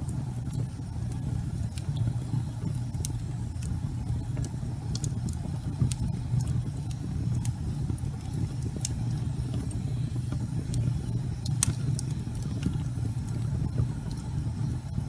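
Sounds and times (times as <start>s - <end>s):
fire crackles and pops: 0.0s - 15.0s
fire roaring: 0.0s - 15.0s.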